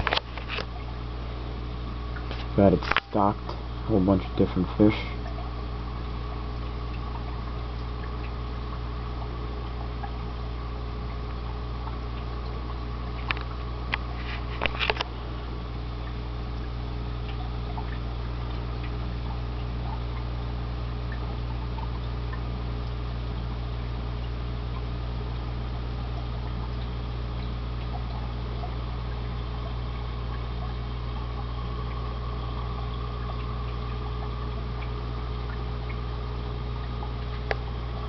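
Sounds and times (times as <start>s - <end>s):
low electric hum: 0.0s - 38.0s
water bubbling and trickling: 0.0s - 38.0s.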